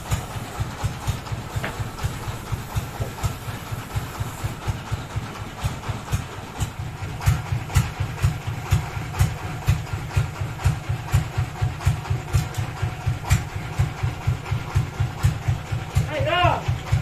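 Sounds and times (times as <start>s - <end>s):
engine idling with pulsing chug: 0.0s - 17.0s.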